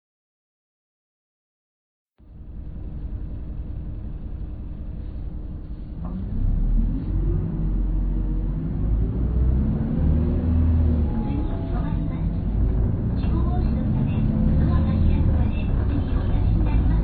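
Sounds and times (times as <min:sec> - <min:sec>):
diesel bus accelerating: 0:02.2 - 0:17.0.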